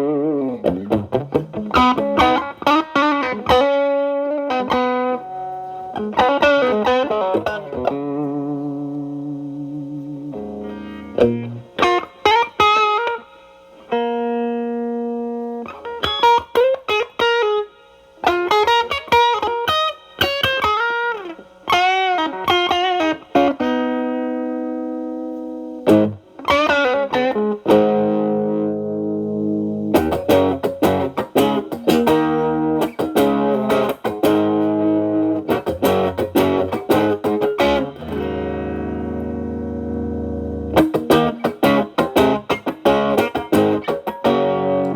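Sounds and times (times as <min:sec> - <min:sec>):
electric guitar licks with bends: 0:00.0 - 0:44.9
electric guitar strummed chords: 0:00.0 - 0:44.9.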